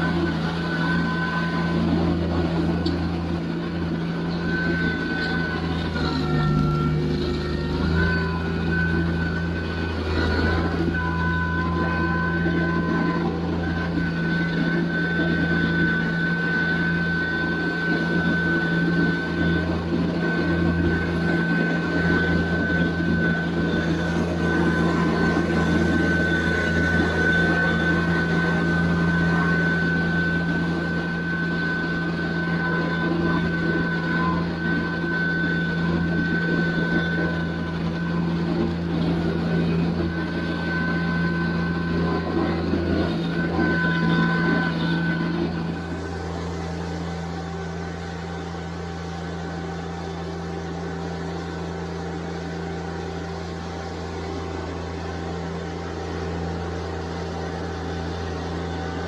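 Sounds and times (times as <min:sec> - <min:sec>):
high whine: 0:00.0 - 0:59.0
tractor diesel engine: 0:00.0 - 0:59.0.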